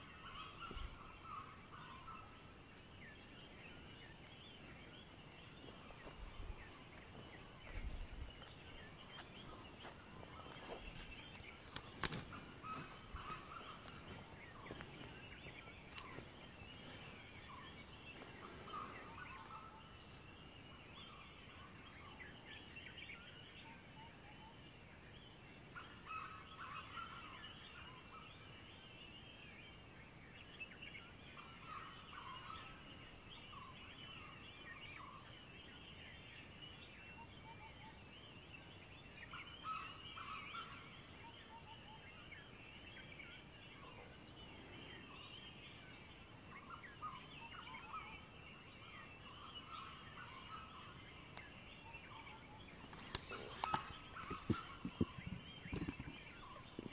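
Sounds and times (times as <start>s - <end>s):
birds chattering calls: 0.0s - 24.2s, 25.3s - 56.9s
birds twittering: 0.0s - 56.9s.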